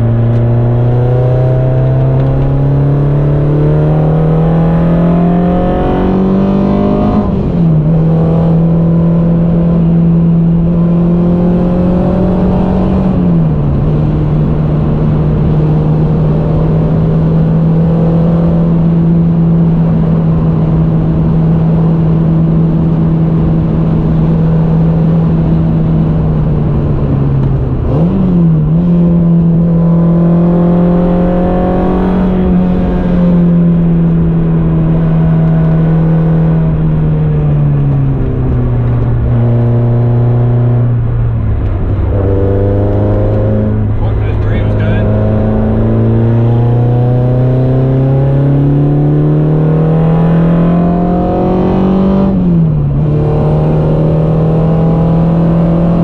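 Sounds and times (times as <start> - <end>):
car engine revving under hard driving: 0.0 - 56.0.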